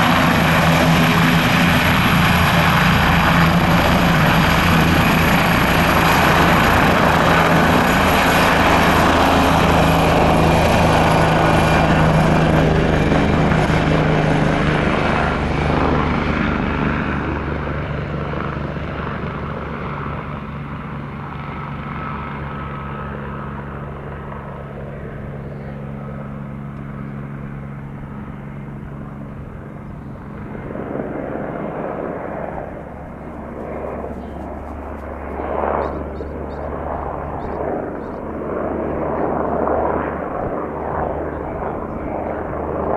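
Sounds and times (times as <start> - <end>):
helicopter rotor and turbine whine: 0.0 - 42.9.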